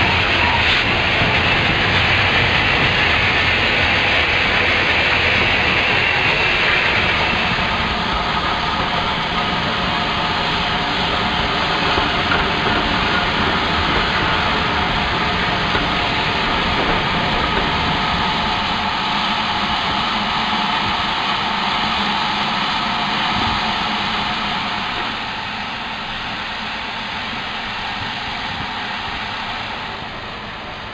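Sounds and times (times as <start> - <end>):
steam locomotive hissing and rumbling: 0.0 - 30.9.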